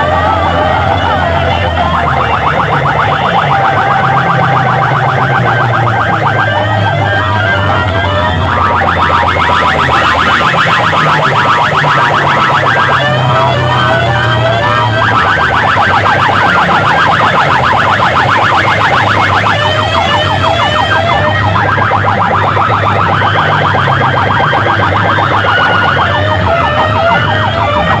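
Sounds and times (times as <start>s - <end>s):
electronic siren warble: 0.0s - 28.0s.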